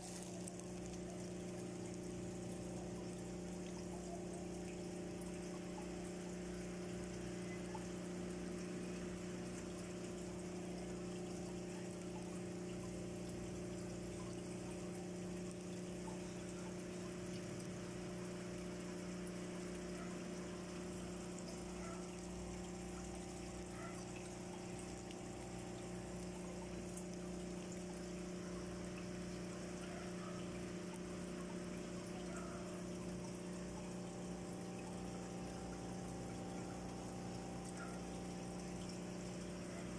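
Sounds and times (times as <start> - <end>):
aquarium pump humming: 0.0 - 39.9
water trickling: 0.0 - 39.9.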